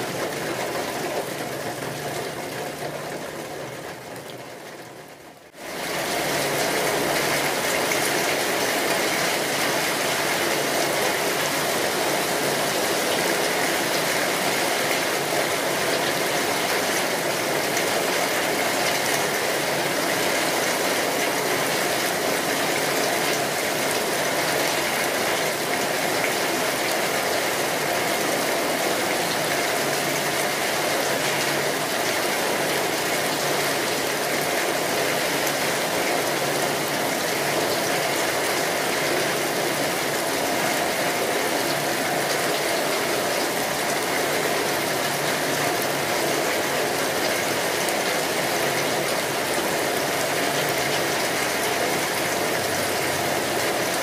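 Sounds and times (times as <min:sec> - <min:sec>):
steady rain hiss: 0:04.9 - 0:54.0.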